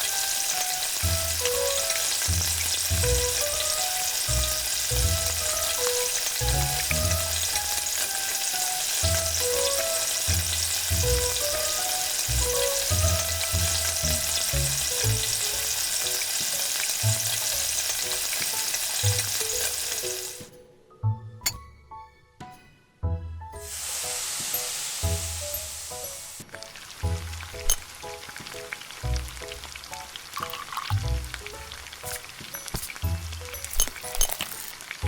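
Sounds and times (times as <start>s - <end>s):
food sizzling in hot oil: 0.0s - 20.5s, 23.6s - 35.0s
light background music: 0.0s - 35.0s.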